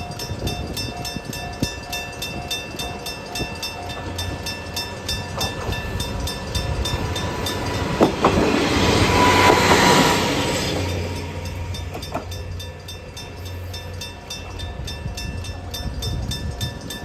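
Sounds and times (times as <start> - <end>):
level-crossing bell ringing: 0.0 - 17.0
train passing: 0.0 - 17.0
train wheels clacking on rails: 0.0 - 17.0.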